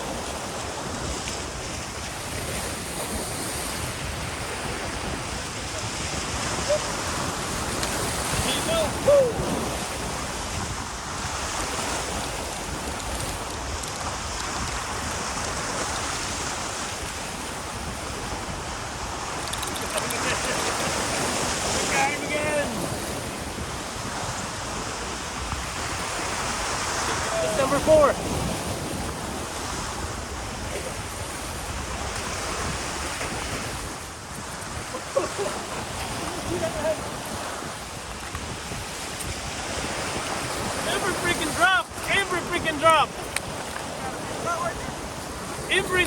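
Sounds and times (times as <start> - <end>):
ocean surf: 0.0 - 46.0
wind buffeting microphone: 0.0 - 46.0.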